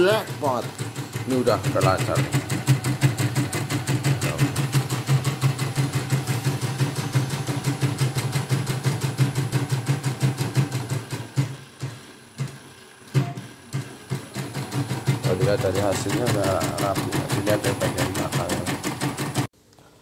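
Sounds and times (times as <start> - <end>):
embroidery machine stitching: 0.0 - 19.5
motor hum: 0.0 - 19.5.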